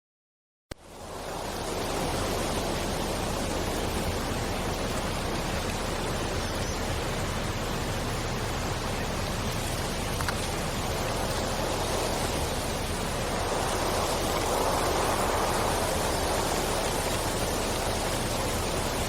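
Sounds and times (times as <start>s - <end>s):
rain falling: 0.8s - 19.0s.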